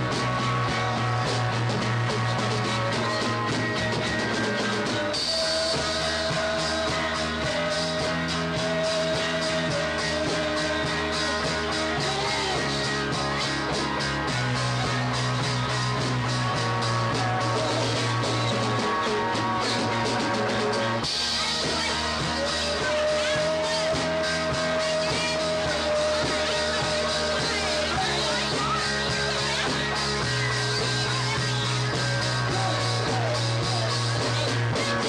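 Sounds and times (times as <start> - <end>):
bass guitar: 0.0 - 35.0
drums with cymbal strokes: 0.0 - 35.0
electric guitar: 0.0 - 35.0.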